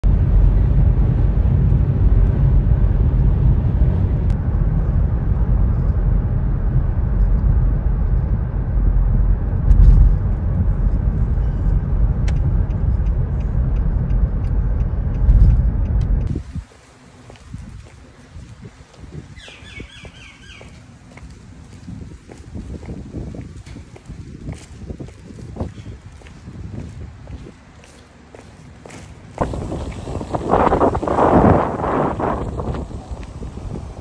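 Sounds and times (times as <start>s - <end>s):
road and tyre rumble in car: 0.0s - 34.0s.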